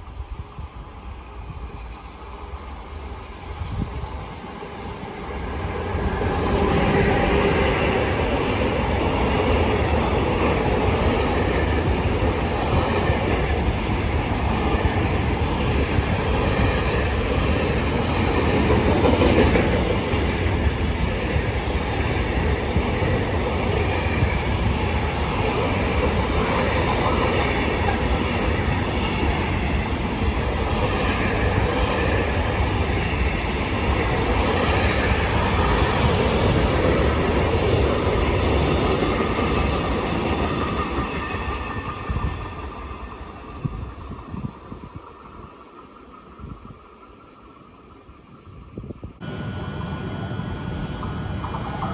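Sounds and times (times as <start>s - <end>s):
train rolling past: 0.0s - 51.9s.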